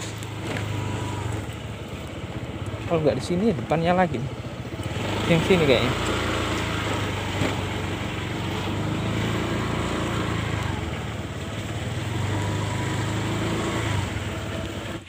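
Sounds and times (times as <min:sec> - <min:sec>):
motor scooter engine running: 0:00.0 - 0:15.0.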